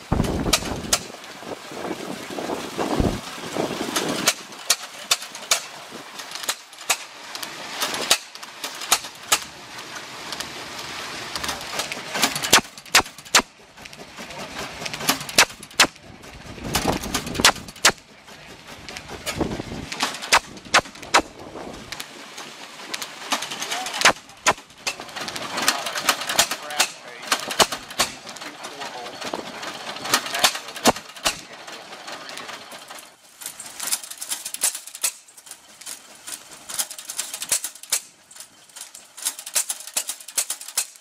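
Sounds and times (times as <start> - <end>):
gas engine exhaust popping: 0.0 - 41.0.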